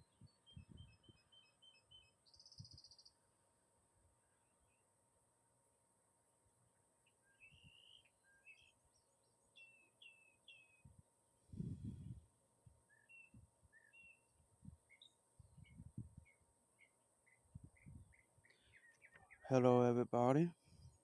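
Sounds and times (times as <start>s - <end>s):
faint bird song: 0.0s - 21.0s.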